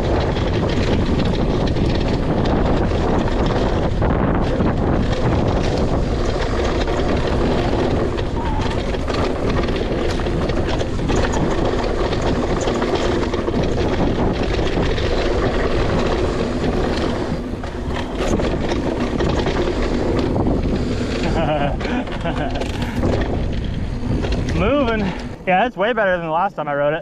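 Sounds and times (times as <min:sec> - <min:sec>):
bike knocks and rattles: 0:00.0 - 0:25.4
tyre rumble: 0:00.0 - 0:25.7
wind buffeting microphone: 0:00.0 - 0:27.0.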